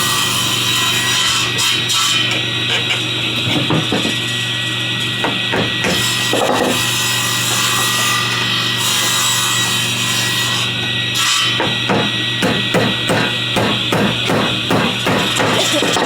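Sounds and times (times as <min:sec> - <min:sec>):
hand saw rasping wood: 0:00.0 - 0:16.0.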